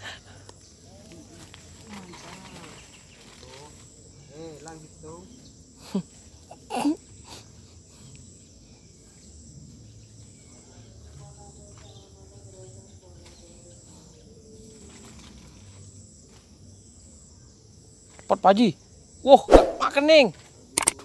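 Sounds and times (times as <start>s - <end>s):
insects shrilling: 0.0s - 10.6s, 13.3s - 20.3s.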